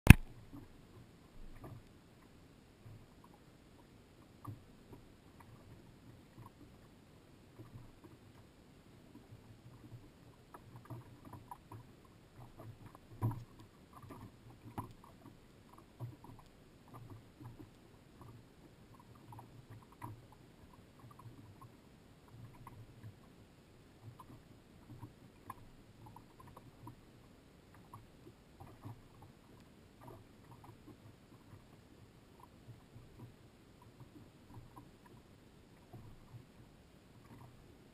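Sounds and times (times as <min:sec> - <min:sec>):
waves lapping against boat hull: 0:00.1 - 0:37.9.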